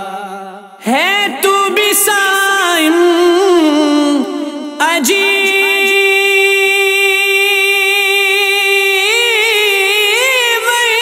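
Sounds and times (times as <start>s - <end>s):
man singing a long note: 0.0s - 11.0s.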